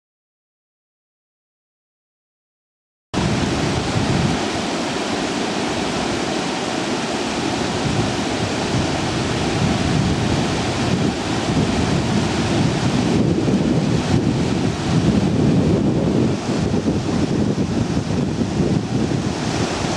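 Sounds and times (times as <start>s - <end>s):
wind buffeting microphone: 3.2s - 19.9s.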